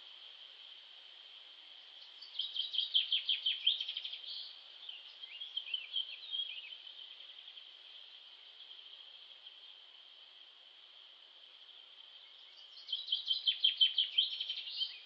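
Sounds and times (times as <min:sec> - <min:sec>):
songbird singing: 0:00.0 - 0:15.0
steady high-pitched hiss: 0:00.0 - 0:15.0.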